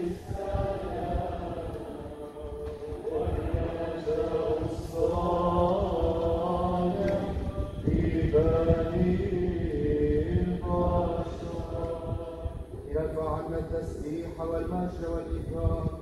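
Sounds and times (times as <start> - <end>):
voices singing a slow hymn: 0.0 - 16.0.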